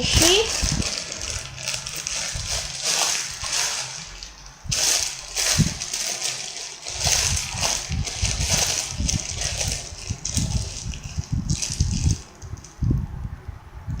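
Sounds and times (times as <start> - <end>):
plastic packaging rustling: 0.0 - 12.8.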